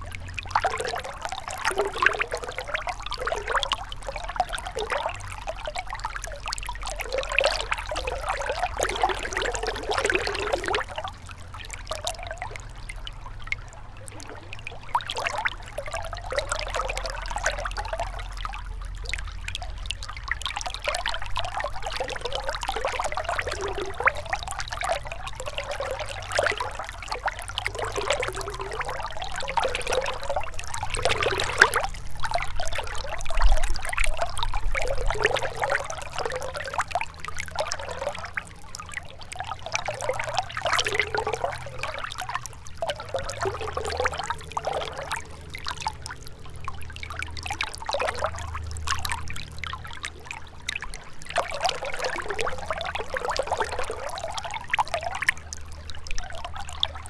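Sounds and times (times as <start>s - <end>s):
river trickling and splashing: 0.0s - 57.0s.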